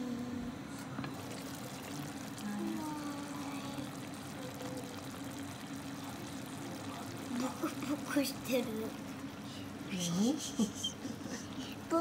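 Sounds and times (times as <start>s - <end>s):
broth bubbling in pot: 1.0s - 12.0s.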